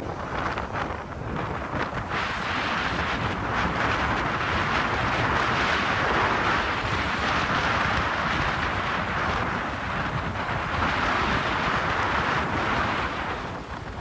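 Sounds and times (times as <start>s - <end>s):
vehicle rumble: 0.0s - 14.0s
wind rushing over microphone: 0.0s - 14.0s.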